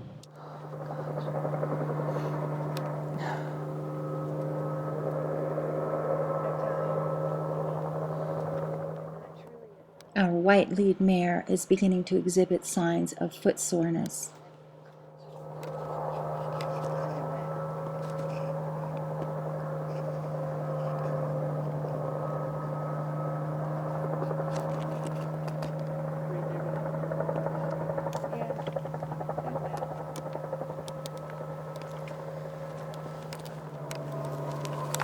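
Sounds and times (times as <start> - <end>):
engine drone: 0.0 - 35.0.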